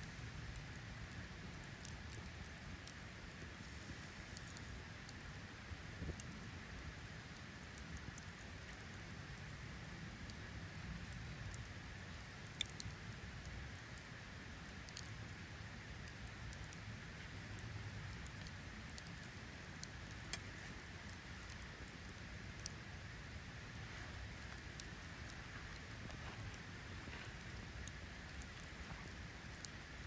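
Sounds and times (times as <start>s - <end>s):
campfire crackling: 0.0s - 30.0s
low hiss: 0.0s - 30.0s.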